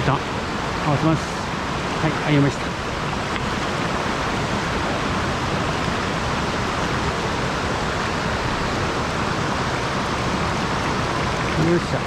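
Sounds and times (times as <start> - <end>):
water rushing over a dam: 0.0 - 12.0.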